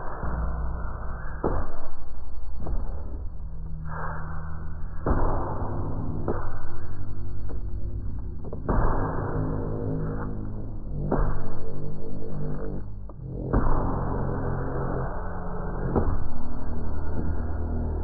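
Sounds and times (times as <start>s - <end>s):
faint high whine: 0.0s - 18.0s
low droning tones: 0.0s - 18.0s.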